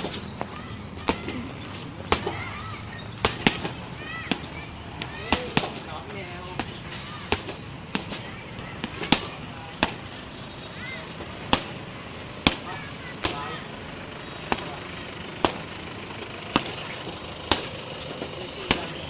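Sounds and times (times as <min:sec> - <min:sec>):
punches thudding on punching bag: 0:00.0 - 0:11.8, 0:12.4 - 0:13.7, 0:14.3 - 0:15.8, 0:16.5 - 0:19.0.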